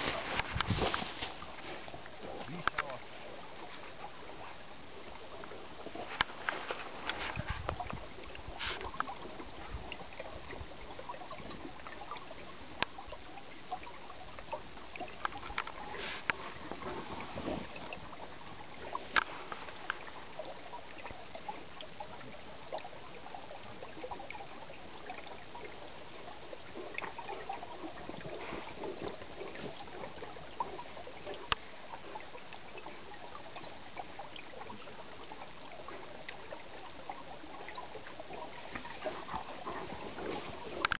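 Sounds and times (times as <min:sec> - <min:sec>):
water trickling and gurgling: 0:00.0 - 0:40.9.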